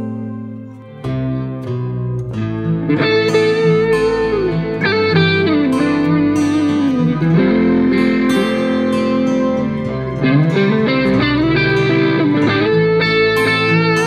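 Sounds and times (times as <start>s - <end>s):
instrumental guitar music: 0.0s - 14.0s.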